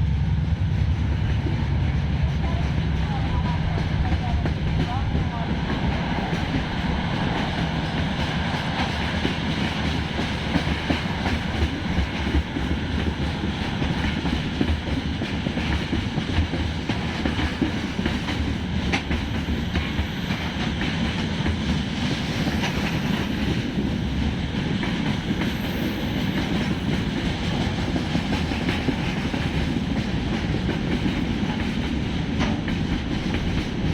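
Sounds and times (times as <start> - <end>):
train rumbling past: 0.0 - 33.9
train wheels clacking on rails: 0.0 - 33.9.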